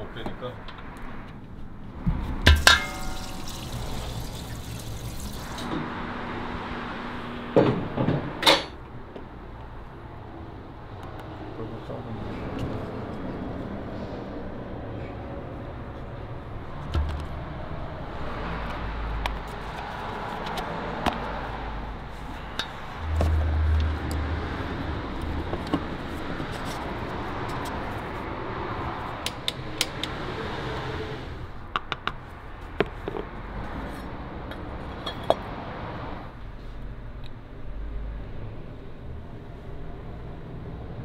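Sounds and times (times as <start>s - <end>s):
steady background noise: 0.0s - 41.0s.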